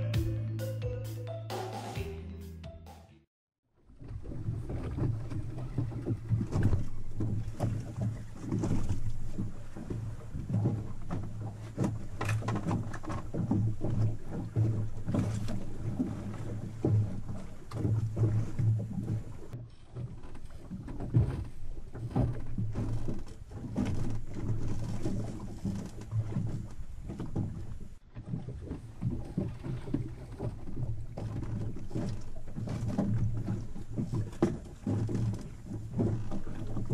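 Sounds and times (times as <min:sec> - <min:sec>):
water slapping against hull: 0:03.8 - 0:36.9.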